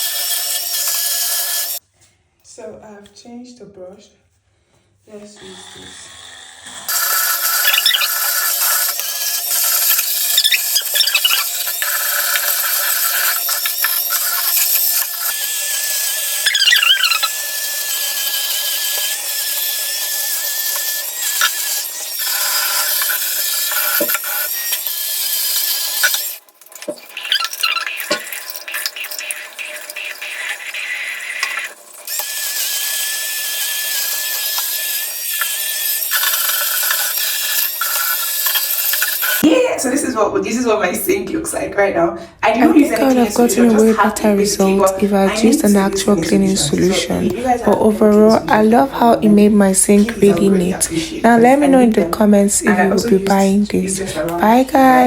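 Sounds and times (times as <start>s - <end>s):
spin scrubber whining: 6.7s - 26.5s, 27.1s - 39.4s, 42.4s - 55.0s.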